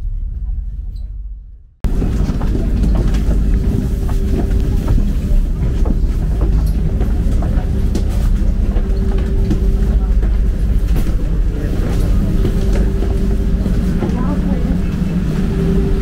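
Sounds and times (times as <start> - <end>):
vehicle rumble with low drone: 0.0 - 16.0.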